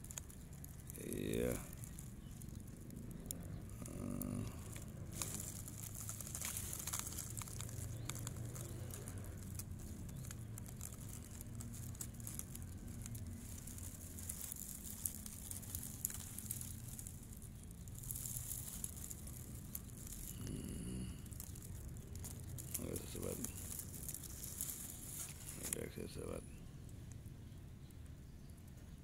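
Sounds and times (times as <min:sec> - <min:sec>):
dry grass nest rustling: 0:00.0 - 0:27.5.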